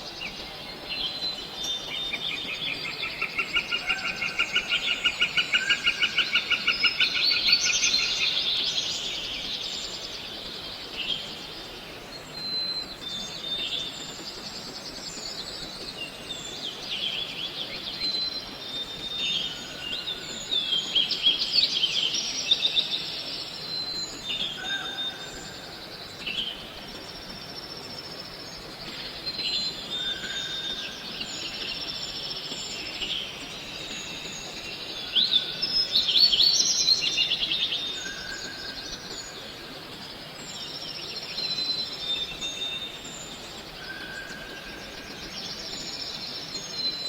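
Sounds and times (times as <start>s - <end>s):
steady outdoor hiss: 0.0s - 47.0s.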